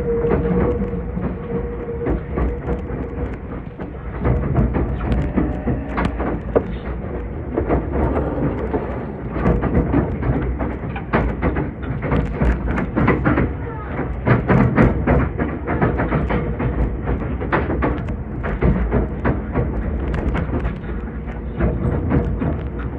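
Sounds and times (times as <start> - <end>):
train interior rumble: 0.0 - 22.9
wheels clicking on rails: 0.0 - 22.9.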